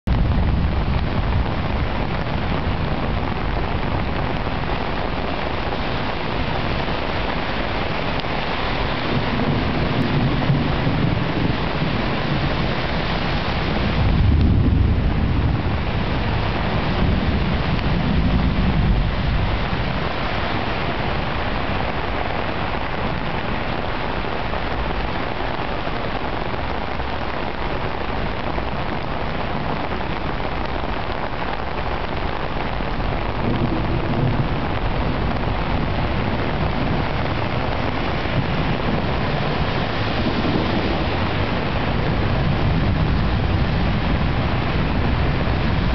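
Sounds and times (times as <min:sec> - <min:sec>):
heavy rain pouring: 0:00.0 - 0:45.9
low rumbles: 0:00.1 - 0:45.9.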